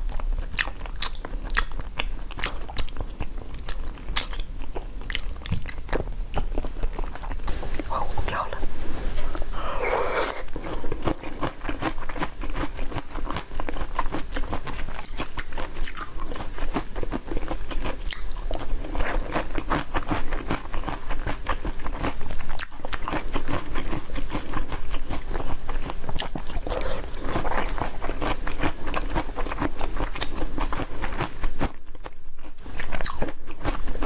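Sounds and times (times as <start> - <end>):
wet crunchy chewing: 0.1 - 7.9, 9.9 - 34.0.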